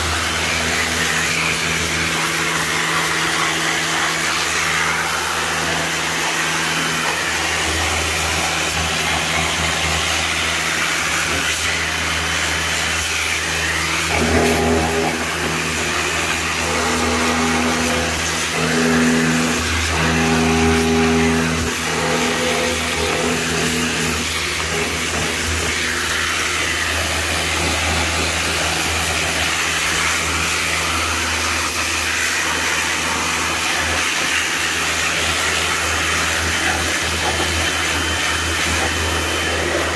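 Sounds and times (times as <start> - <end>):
pressure washer running: 0.0 - 39.9
water jet hissing: 0.0 - 39.9.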